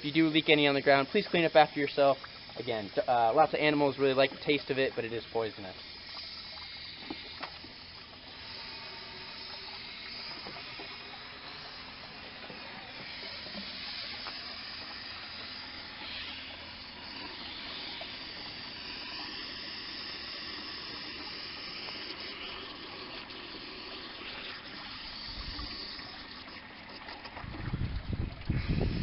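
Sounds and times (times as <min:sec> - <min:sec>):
hose water flowing: 0:00.0 - 0:29.0.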